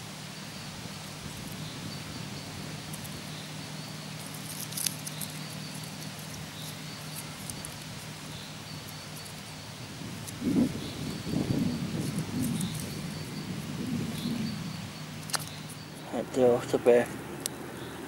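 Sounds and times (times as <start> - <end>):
campfire wood crackling: 0.0 - 17.8
steady hiss: 0.0 - 18.0.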